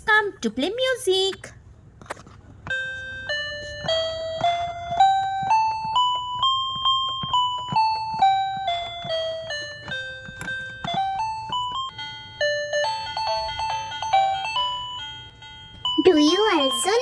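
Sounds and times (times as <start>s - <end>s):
toy electronic tune: 2.7s - 17.0s.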